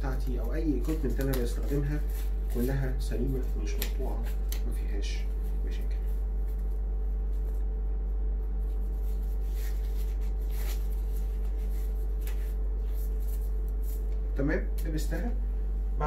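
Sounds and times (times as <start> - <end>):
gloves rubbing and rustling: 0.0 - 15.8.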